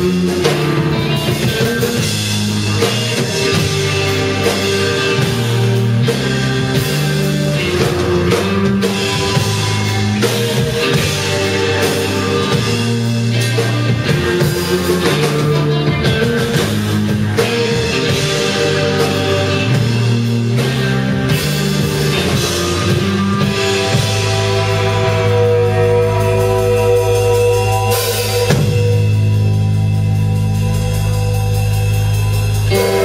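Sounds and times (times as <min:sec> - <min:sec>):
rock band playing live: 0:00.0 - 0:33.0
steady drumming: 0:00.0 - 0:33.0.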